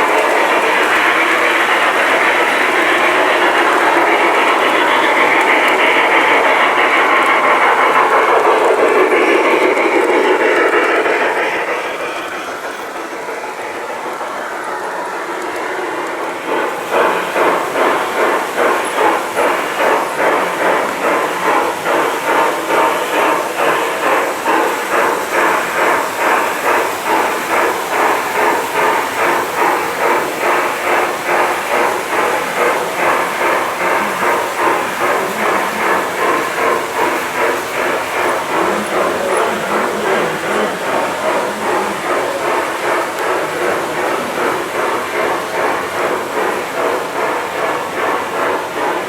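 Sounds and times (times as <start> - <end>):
model train running: 0.0 - 49.0.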